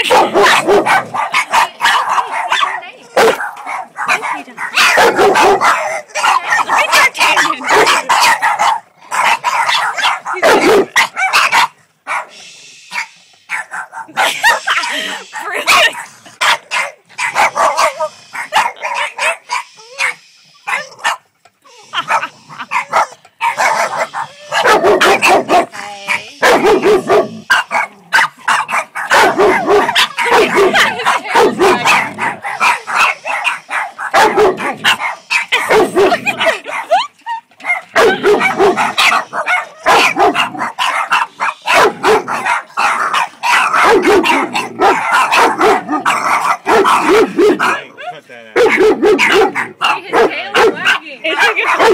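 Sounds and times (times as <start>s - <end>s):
dogs barking: 0.0s - 51.9s.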